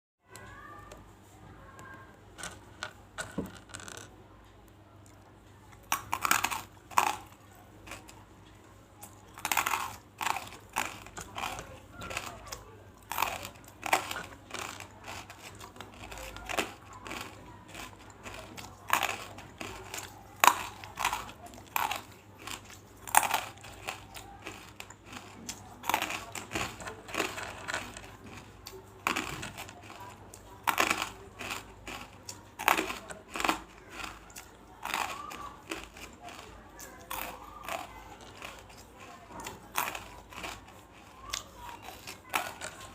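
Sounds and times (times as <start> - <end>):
mouth crunching brittle pieces: 5.9 - 8.1, 9.4 - 42.9.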